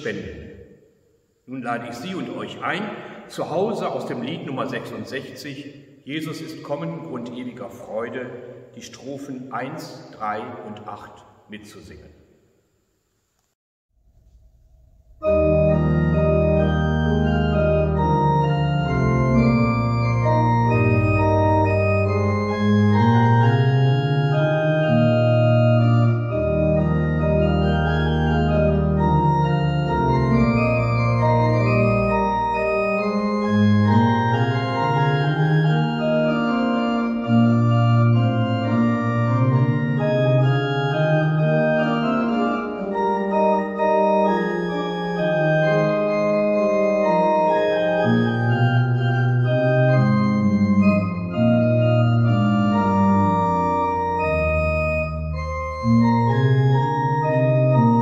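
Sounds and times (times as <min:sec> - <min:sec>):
church pipe organ playing a hymn: 0:01.5 - 0:11.8, 0:15.2 - 0:58.0.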